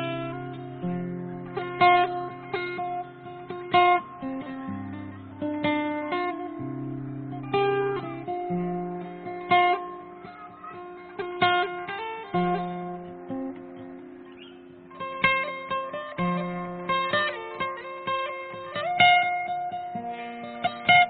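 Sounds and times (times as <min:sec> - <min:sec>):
plucked guitar: 0:00.0 - 0:21.0.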